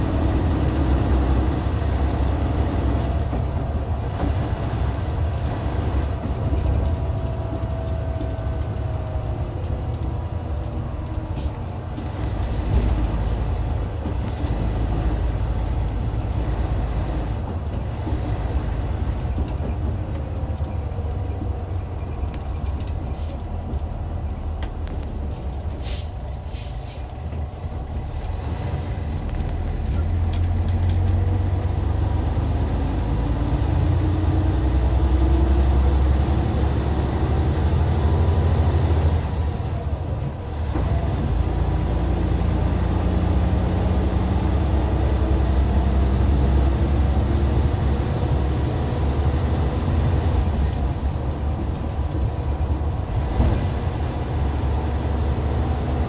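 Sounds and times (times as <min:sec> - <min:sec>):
diesel coach engine rumbling: 0:00.0 - 0:56.0.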